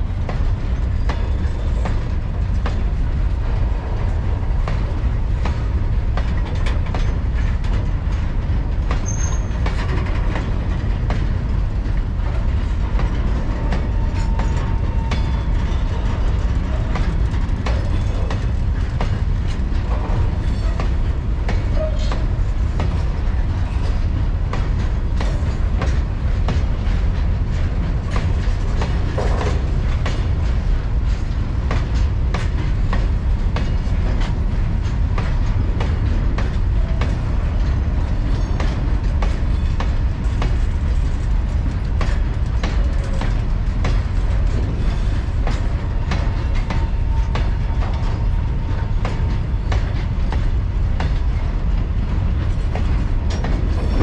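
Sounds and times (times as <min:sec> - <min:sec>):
freight train rumble: 0:00.0 - 0:54.0
wheel clicks over rail joints: 0:04.1 - 0:54.0.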